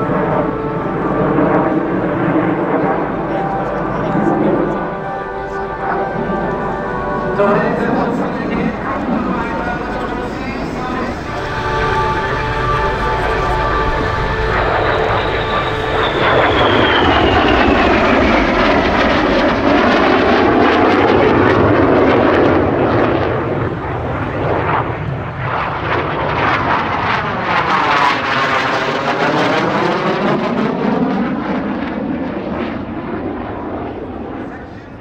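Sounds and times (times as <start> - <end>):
jet roar with high whine: 0.0 - 35.0.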